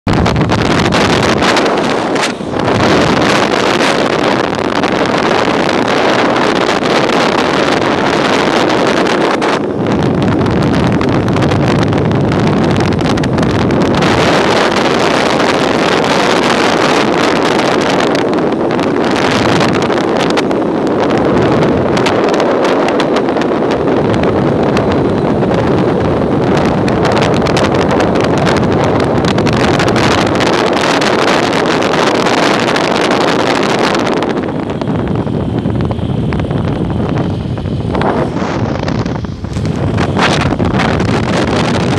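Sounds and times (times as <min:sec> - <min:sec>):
wind and road noise: 0:00.0 - 0:41.9
wind buffeting microphone: 0:00.0 - 0:41.9.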